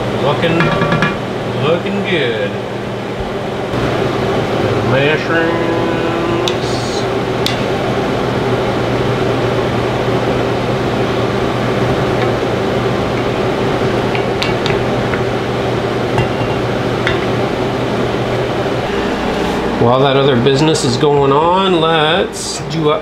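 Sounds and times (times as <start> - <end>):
low hum: 3.6 - 22.6.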